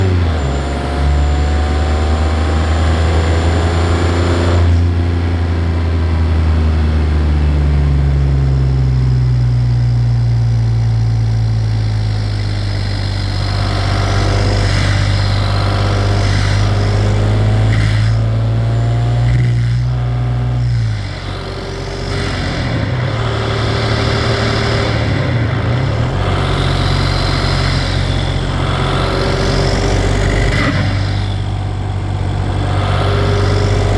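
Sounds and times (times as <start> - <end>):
diesel engine revving: 0.0 - 33.9.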